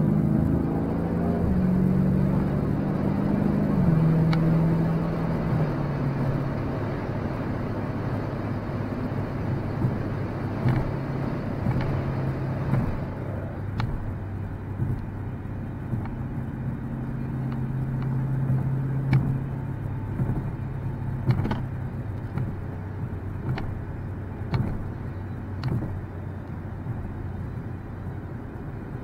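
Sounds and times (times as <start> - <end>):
car engine hum: 0.0 - 29.0
tyre and road noise: 0.0 - 29.0.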